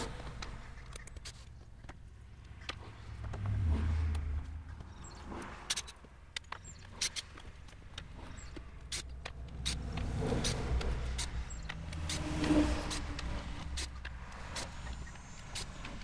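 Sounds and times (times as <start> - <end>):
road vehicle passing: 2.0 - 16.0.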